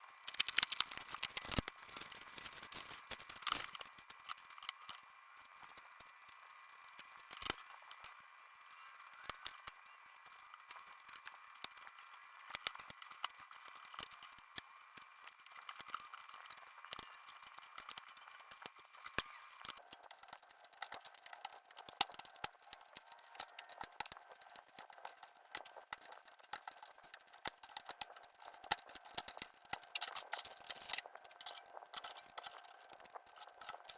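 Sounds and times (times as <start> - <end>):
clicks and rattles of packaging: 0.0 - 33.9.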